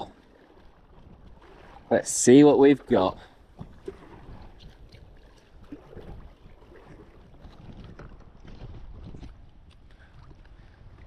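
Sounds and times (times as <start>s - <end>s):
wind rumble on microphone: 0.0s - 2.0s, 3.4s - 11.0s
water sloshing and splashing: 0.0s - 11.0s.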